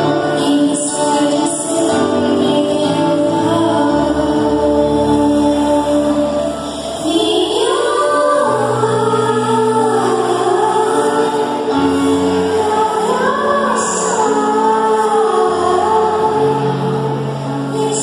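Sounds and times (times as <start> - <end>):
choir singing a hymn: 0.0 - 18.0.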